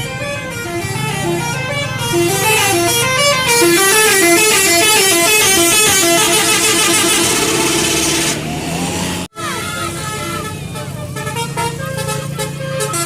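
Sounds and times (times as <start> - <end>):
musical bus horn melody: 0.0 - 8.5, 9.3 - 13.0.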